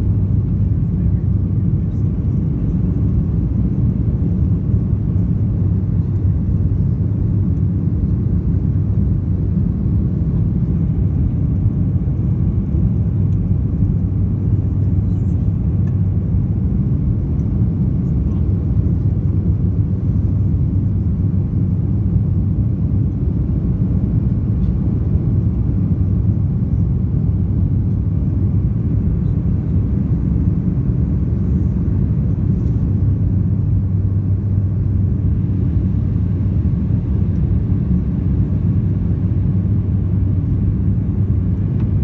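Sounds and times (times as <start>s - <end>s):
aircraft cabin low rumble: 0.0s - 42.0s
faint steady hum: 0.0s - 42.0s.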